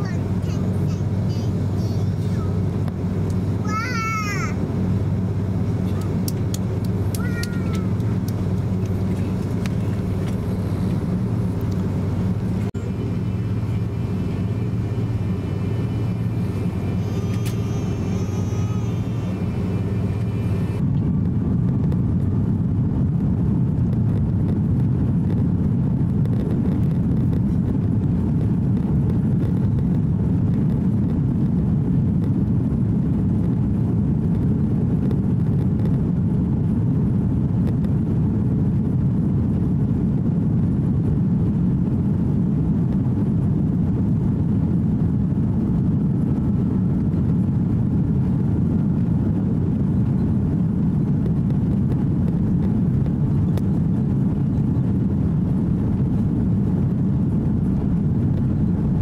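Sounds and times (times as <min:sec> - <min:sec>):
jet engines humming in cabin: 0:00.0 - 0:59.0.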